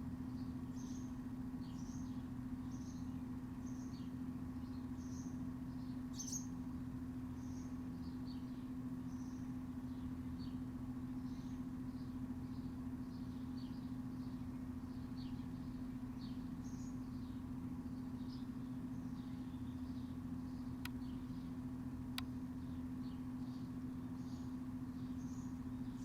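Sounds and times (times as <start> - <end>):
steady low hum: 0.0 - 26.0
small birds chirping: 0.1 - 26.0.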